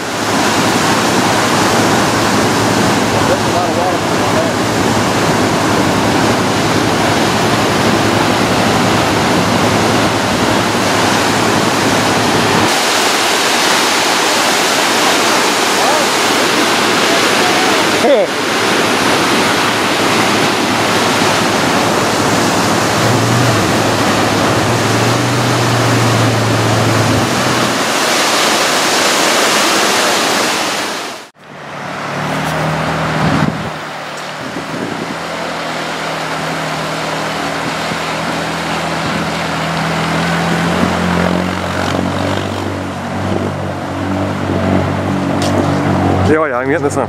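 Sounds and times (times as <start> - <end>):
water churning: 0.0 - 47.0
whitewater rushing: 0.0 - 47.0.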